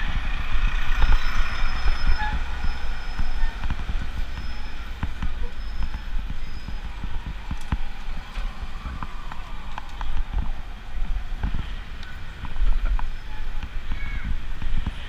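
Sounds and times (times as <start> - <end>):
city traffic: 0.0 - 15.0
wind rumbling on microphone: 0.0 - 15.0.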